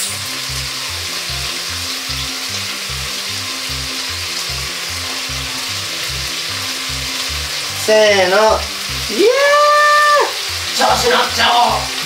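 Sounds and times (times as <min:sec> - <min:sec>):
background music with bass line: 0:00.0 - 0:12.0
eggplant sizzling in a pan: 0:00.0 - 0:12.0.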